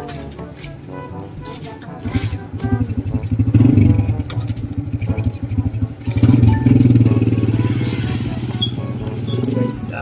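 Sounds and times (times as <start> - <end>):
motorcycle engine revving: 1.9 - 10.0.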